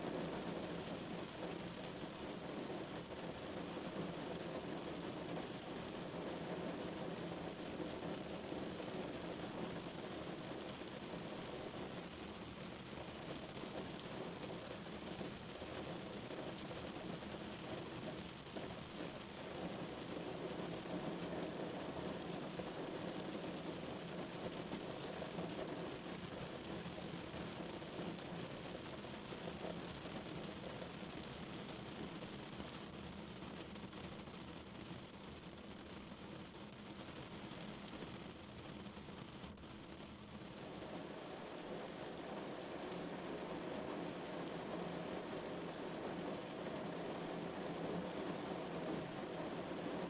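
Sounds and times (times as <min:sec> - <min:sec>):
rain drumming on a car: 0:00.0 - 0:50.0.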